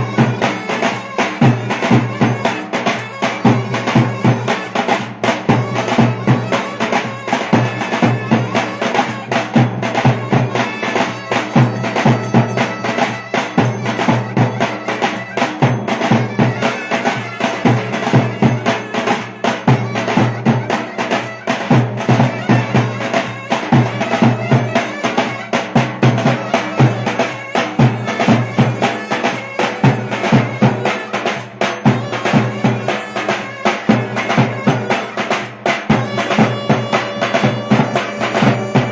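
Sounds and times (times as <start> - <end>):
driving drum beat: 0.0 - 38.9
shrill reed wind instrument: 0.0 - 38.9.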